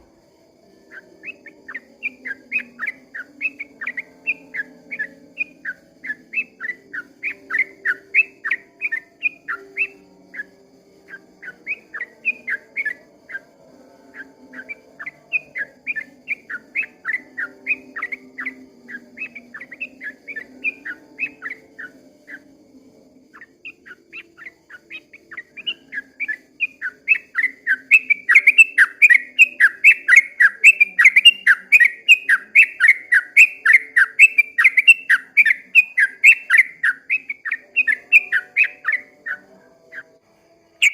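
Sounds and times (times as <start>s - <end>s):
bird chattering song: 0.9s - 13.5s, 14.1s - 22.5s, 23.3s - 40.1s.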